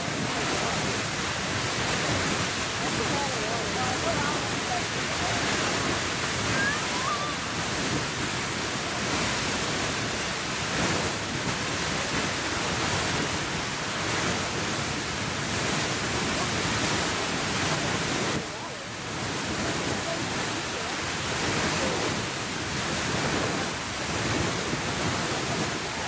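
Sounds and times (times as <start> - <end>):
geyser water jet rushing hiss: 0.0 - 26.0.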